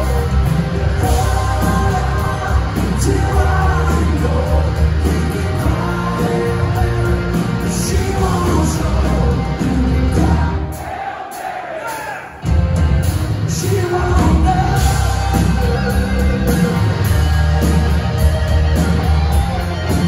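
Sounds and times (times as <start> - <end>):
live blues-rock band playing: 0.0 - 10.8, 12.4 - 20.0
person singing lead vocal: 0.0 - 12.4, 13.5 - 18.9.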